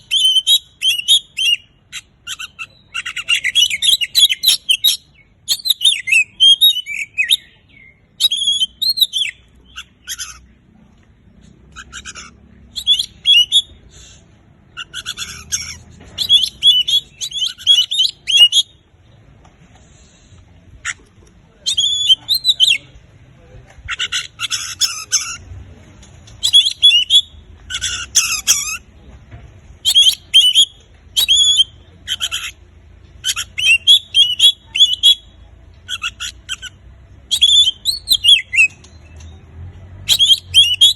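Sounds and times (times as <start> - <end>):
magpie-robin singing: 0.0 - 10.6, 11.5 - 18.8, 21.6 - 23.2, 23.8 - 25.5, 26.2 - 28.9, 29.8 - 40.9.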